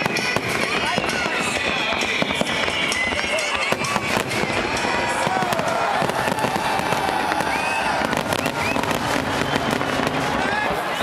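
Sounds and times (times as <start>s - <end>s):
firework bursts and bangs: 0.0s - 11.0s
firework whistling: 0.0s - 11.0s.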